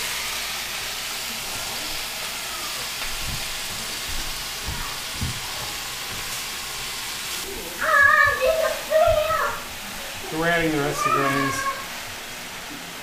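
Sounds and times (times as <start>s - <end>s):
greens sizzling in hot oil: 0.0s - 13.0s.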